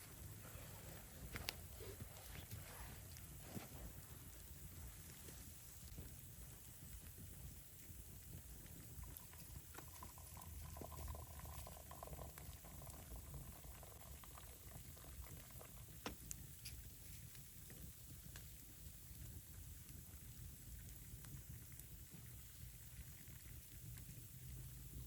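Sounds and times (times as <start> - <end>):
faint liquid bubbling: 0.0 - 25.0.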